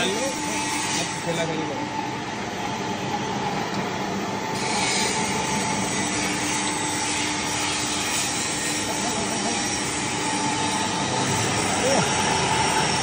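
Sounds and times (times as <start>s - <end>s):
constant machine whine: 0.0s - 13.0s
pellet mill droning: 0.0s - 13.0s.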